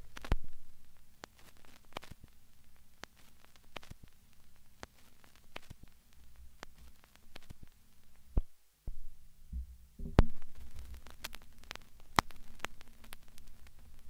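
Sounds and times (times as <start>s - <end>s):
crackling clicks and static pops: 0.0s - 14.0s
low electrical hum: 0.0s - 14.0s.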